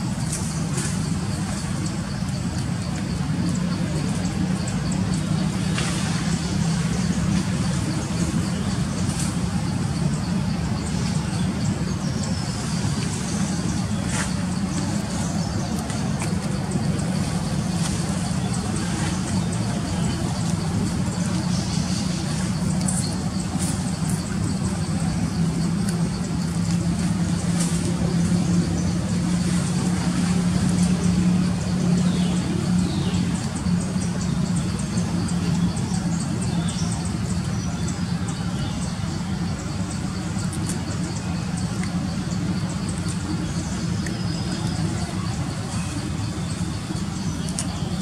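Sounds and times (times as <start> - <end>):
low mechanical drone: 0.0 - 48.0
steady low hum: 0.0 - 48.0.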